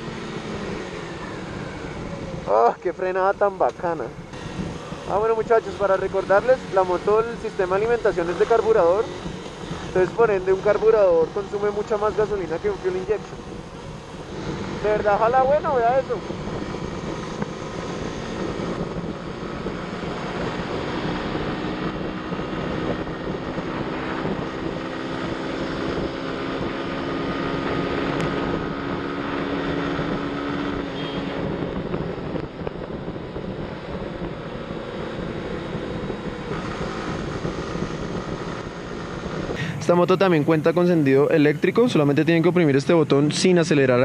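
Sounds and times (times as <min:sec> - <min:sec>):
motorcycle engine accelerating: 0:00.0 - 0:44.0
wind on microphone: 0:04.0 - 0:11.9, 0:12.5 - 0:42.6.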